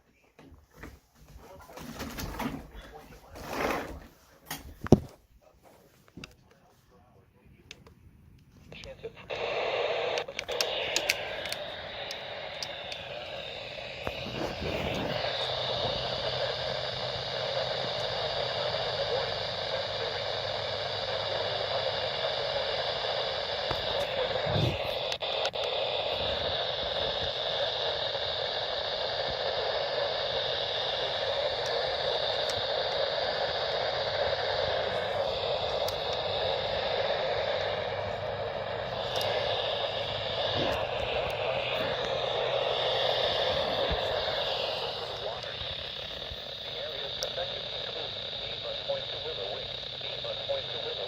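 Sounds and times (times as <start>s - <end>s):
faint hum: 0.0s - 51.0s
radio static hiss: 0.0s - 51.0s
radio clicks: 7.6s - 51.0s.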